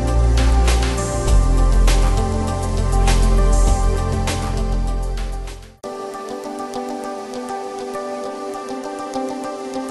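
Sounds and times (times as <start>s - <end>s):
background music with deep bass: 0.0s - 9.9s
light background music: 0.0s - 9.9s.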